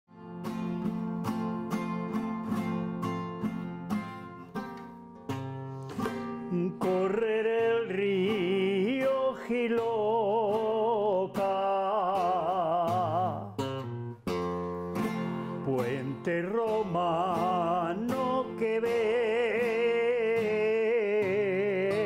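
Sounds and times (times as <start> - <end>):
strummed classical guitar: 0.1 - 22.0.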